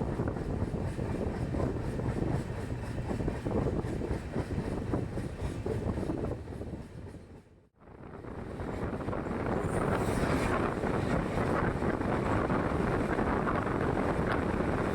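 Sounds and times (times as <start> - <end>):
train rumbling and rattling: 0.0 - 14.9
wind buffeting microphone: 0.0 - 14.9.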